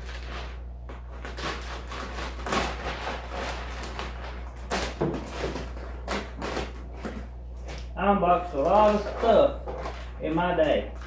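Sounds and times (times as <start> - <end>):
plastic film crinkling and rustling: 0.0 - 11.0.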